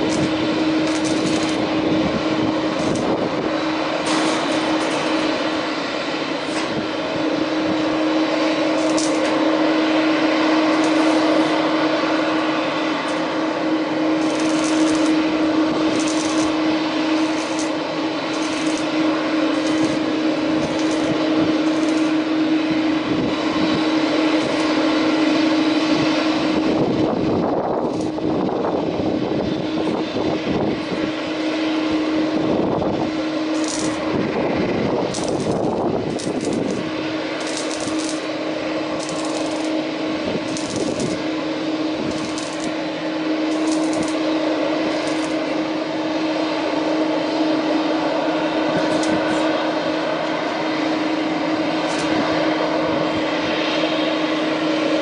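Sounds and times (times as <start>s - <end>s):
jet engines running at low power: 0.0s - 55.0s.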